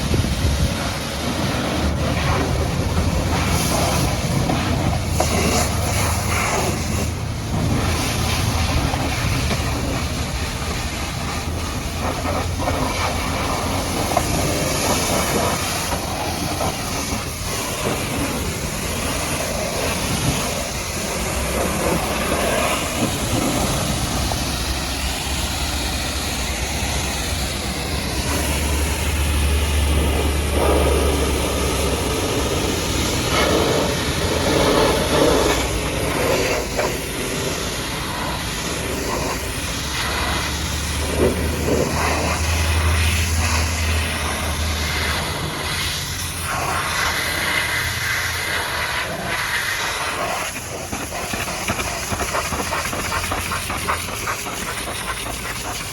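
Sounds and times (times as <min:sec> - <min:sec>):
pressure washer spraying: 0:00.0 - 0:55.9.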